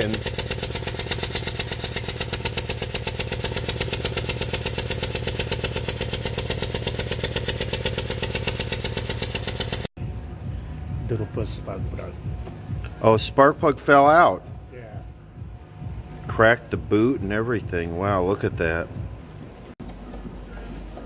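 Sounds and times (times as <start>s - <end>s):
engine chuffing: 0.0s - 21.0s.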